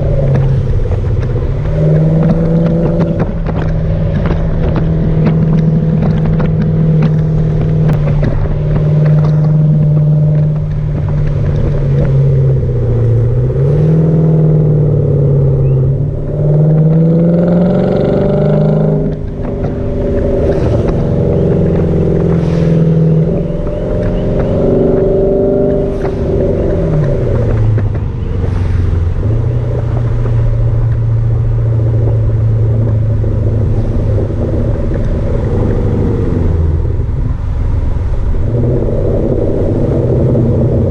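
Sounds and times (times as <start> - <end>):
car engine through loud exhaust: 0.0 - 40.9.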